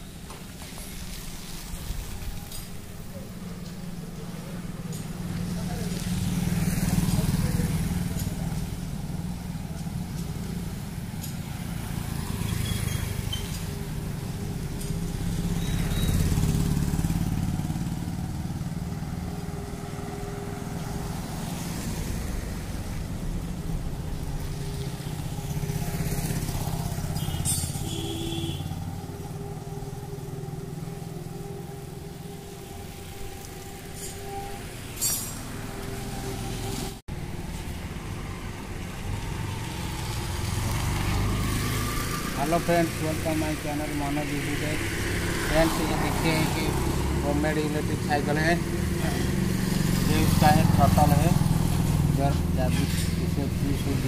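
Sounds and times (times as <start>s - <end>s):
motorcycle engines passing: 0.0s - 54.0s.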